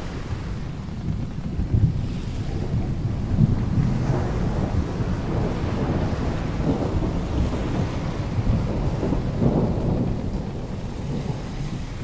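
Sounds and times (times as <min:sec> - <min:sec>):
rolling thunder: 0:00.0 - 0:12.0
steady rain: 0:00.0 - 0:12.0.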